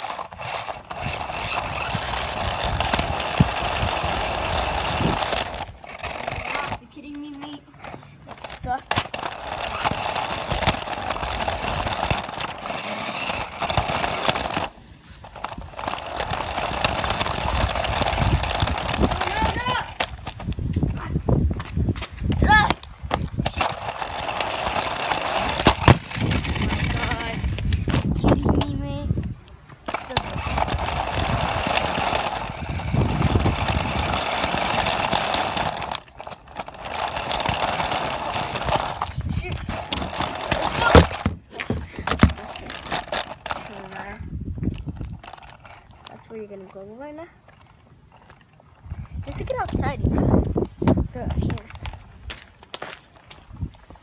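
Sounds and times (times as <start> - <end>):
toy car electric motor buzzing: 0.0 - 46.5.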